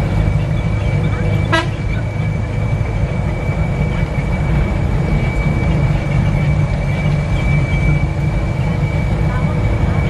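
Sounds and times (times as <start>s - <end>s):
diesel engine rumbling: 0.0s - 10.0s
steady high whine: 0.0s - 10.0s.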